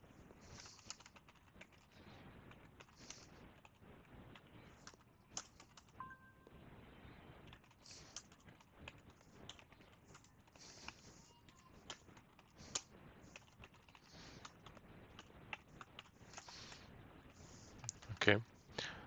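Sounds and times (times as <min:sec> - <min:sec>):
computer keyboard typing: 0:00.4 - 0:06.3, 0:07.4 - 0:18.3.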